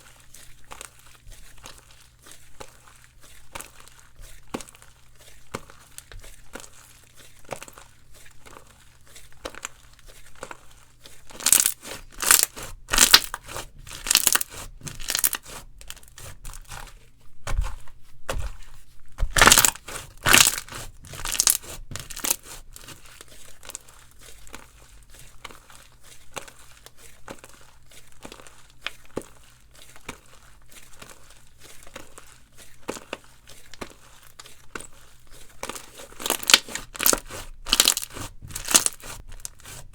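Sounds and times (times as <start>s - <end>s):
slime squished by hand: 0.7s - 39.9s.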